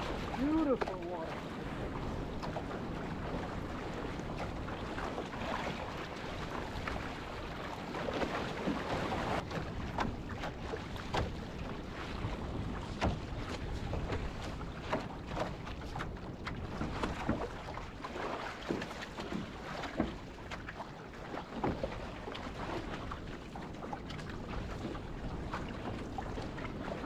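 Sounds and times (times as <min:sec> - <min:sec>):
choppy sea rushing: 0:00.0 - 0:27.0
waves slapping boat hull: 0:00.0 - 0:27.0.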